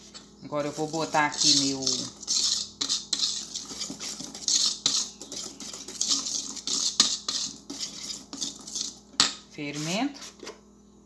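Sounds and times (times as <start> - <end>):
whisk swishing through batter: 0.0 - 9.2.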